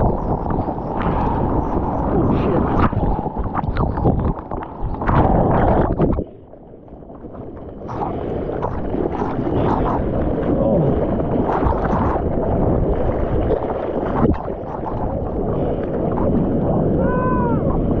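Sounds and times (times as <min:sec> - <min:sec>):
sea water rushing and splashing: 0:00.0 - 0:18.0
wind buffeting microphone: 0:00.0 - 0:18.0.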